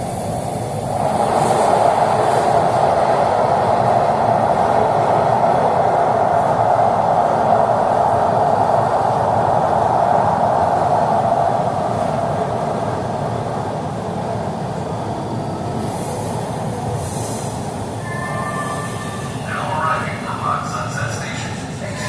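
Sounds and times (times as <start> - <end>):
subway train wheels and motors: 0.0 - 22.0.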